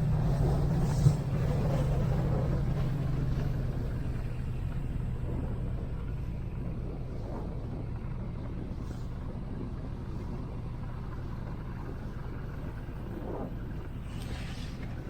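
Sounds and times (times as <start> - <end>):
speedboat engine running: 0.0 - 15.0.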